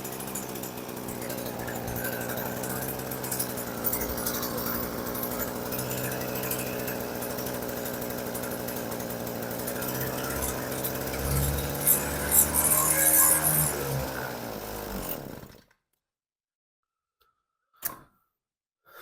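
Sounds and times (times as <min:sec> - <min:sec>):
two-stroke engine idling: 0:00.0 - 0:15.6.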